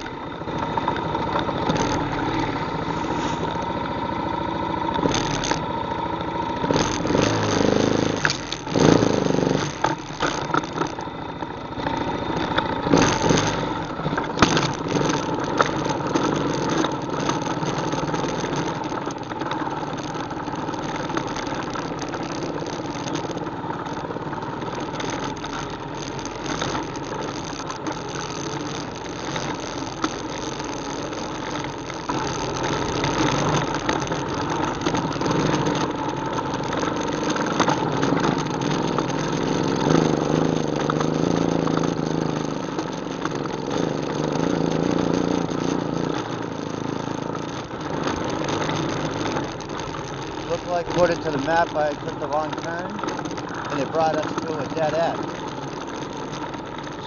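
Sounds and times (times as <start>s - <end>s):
atv engine running: 0.0s - 57.0s
clicks and rattles: 6.7s - 44.2s, 45.4s - 57.0s.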